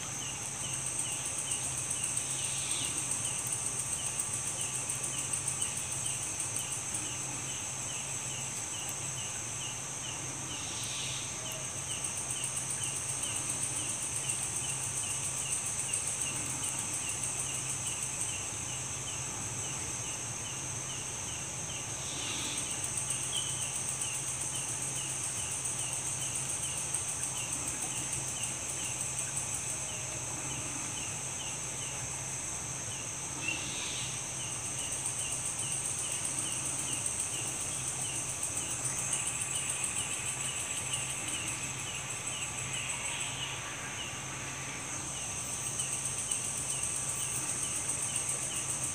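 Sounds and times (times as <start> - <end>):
crickets buzzing: 0.0 - 48.9
quick insect chirp: 0.0 - 48.9.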